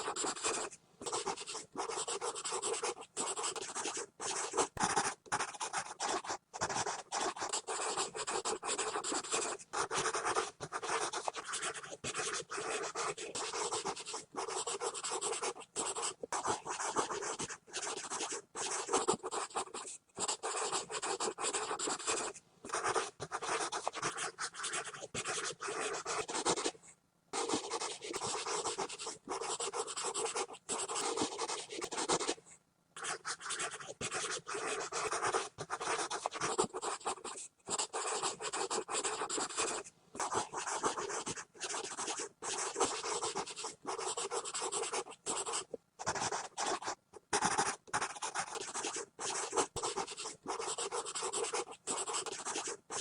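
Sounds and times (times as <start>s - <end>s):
pencil scribbling on paper: 0.0s - 26.8s, 27.4s - 32.4s, 33.0s - 53.0s.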